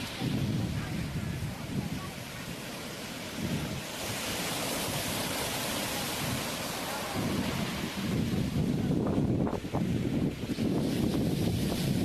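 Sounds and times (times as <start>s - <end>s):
hissing wave wash: 0.0s - 12.0s
ocean waves rushing: 0.0s - 12.0s.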